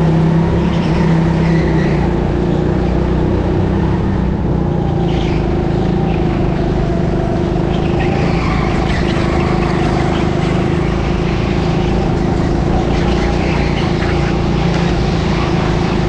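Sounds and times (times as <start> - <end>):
go-kart motor drone: 0.0 - 16.0
kart rumble: 0.0 - 16.0.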